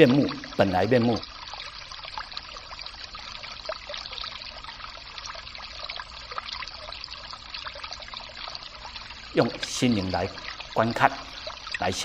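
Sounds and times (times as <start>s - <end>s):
small water splashes: 0.0s - 12.0s
water trickling: 0.0s - 12.0s.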